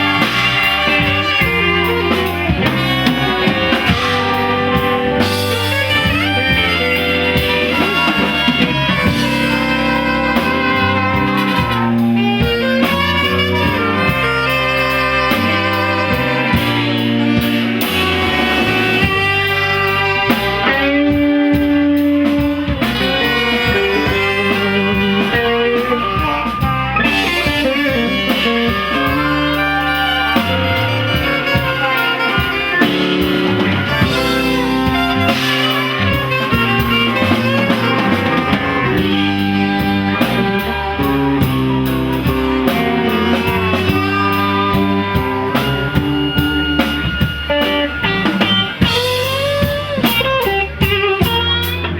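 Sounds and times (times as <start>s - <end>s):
drum kit playing: 0.0s - 51.9s
guitar playing: 0.0s - 51.9s.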